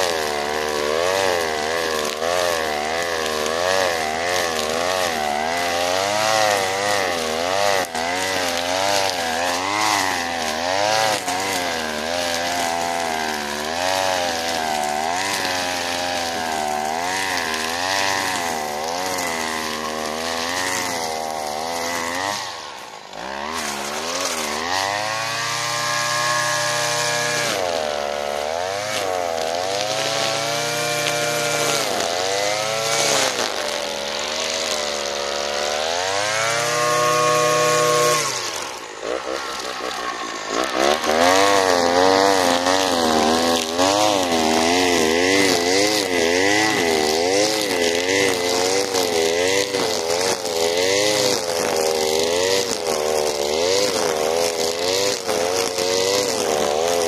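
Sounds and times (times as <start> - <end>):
string trimmer engine cutting grass: 0.0 - 57.0.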